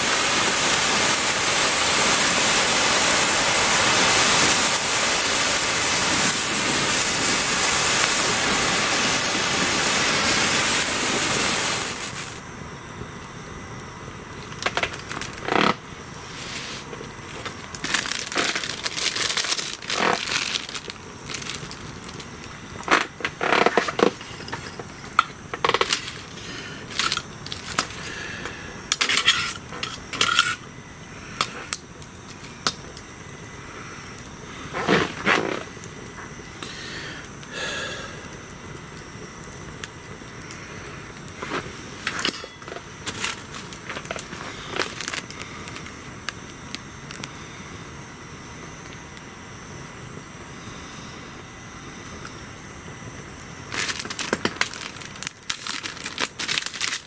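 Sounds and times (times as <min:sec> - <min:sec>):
hand-held firework hissing: 0:00.0 - 0:13.0, 0:13.7 - 0:49.2, 0:50.1 - 0:57.0
campfire crackling and popping: 0:00.0 - 0:16.3, 0:16.9 - 0:49.3, 0:52.0 - 0:57.0.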